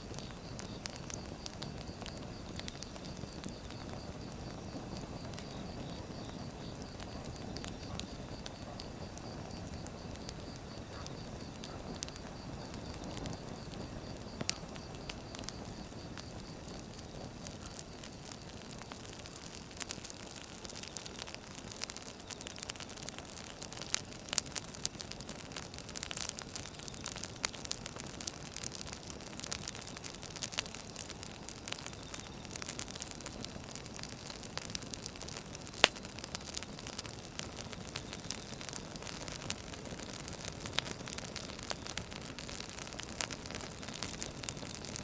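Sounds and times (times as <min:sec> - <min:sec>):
firewood crackling and popping: 0:00.0 - 0:45.0.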